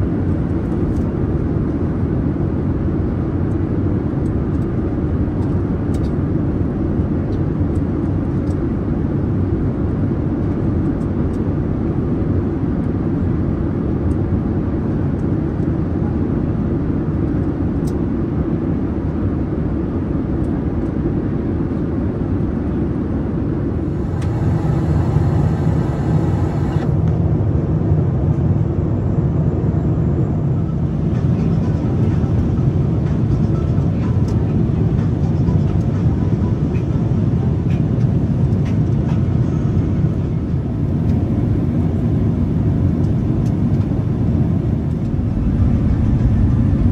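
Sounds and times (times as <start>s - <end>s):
jet engines and airflow rushing: 0.0s - 46.9s.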